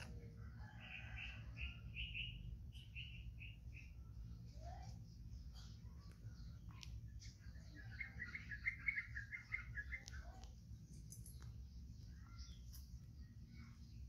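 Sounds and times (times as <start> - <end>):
bird chirping: 0.8 - 14.0.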